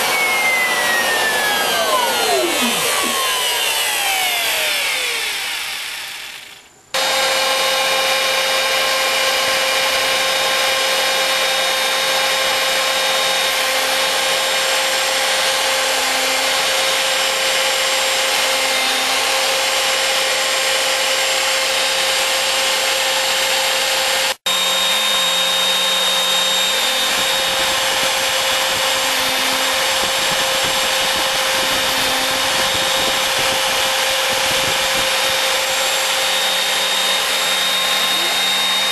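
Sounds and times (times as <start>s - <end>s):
router spindle milling wood: 0.0s - 38.9s.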